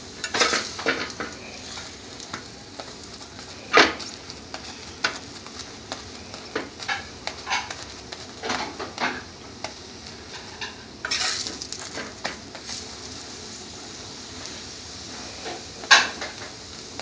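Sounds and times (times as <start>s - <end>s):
flatbread sizzling on griddle: 0.0s - 17.0s.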